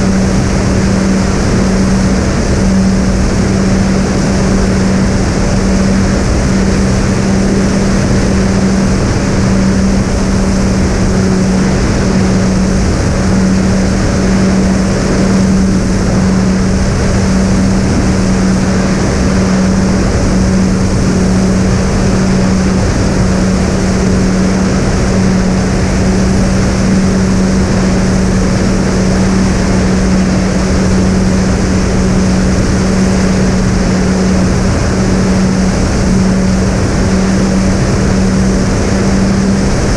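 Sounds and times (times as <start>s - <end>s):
motors and propellers droning: 0.0s - 39.9s
rush of wind noise: 0.0s - 39.9s.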